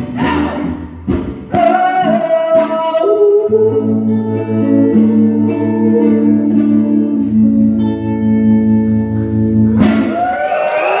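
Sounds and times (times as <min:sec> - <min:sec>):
electric guitar: 0:00.0 - 0:11.0.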